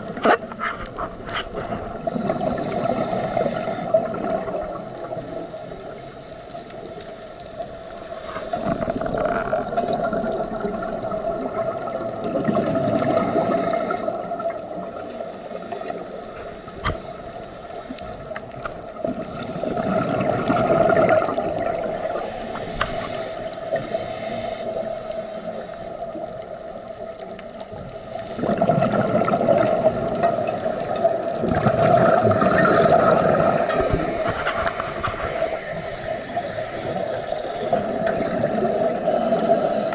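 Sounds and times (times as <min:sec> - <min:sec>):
exhaled bubbles gurgling: 0:00.0 - 0:39.9
underwater hum: 0:00.0 - 0:39.9.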